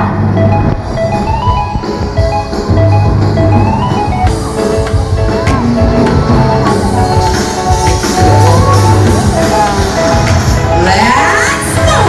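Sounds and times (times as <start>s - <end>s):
dance music: 0.0s - 12.0s.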